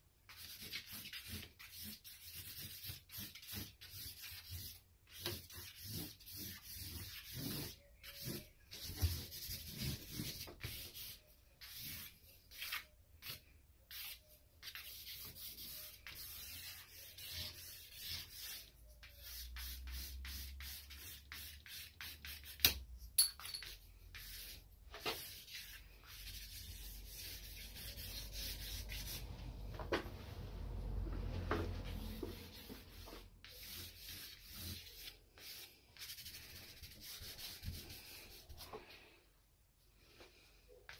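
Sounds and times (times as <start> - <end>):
charcoal scratching on paper: 0.3 - 22.8, 23.8 - 29.4, 31.7 - 38.7.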